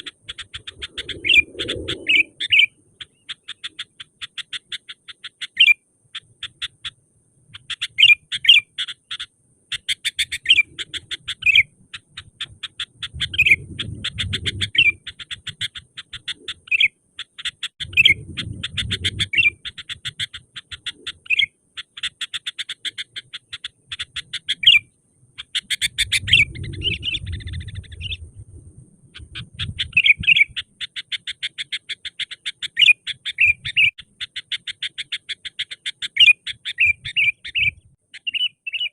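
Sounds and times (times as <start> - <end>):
bird chattering and whistling: 0.0 - 28.4, 29.1 - 38.9.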